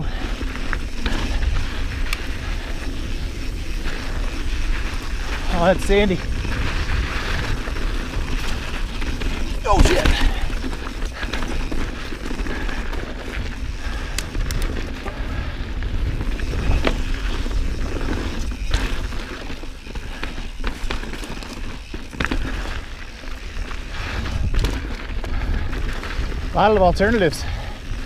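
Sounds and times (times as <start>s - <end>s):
wind rumble on microphone: 0.0s - 19.6s, 22.4s - 28.0s
bike clicks and rattles: 0.0s - 28.0s
bike tyres on dirt: 0.0s - 28.0s.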